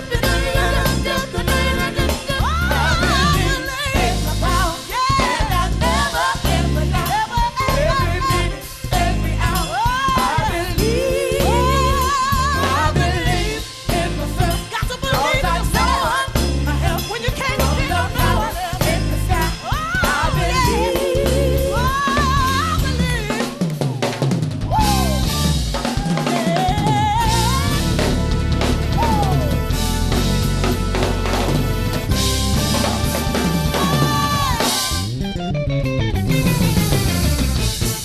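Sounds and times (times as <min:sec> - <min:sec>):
drum kit fills: 0:00.0 - 0:38.0
gospel band music: 0:00.0 - 0:38.0.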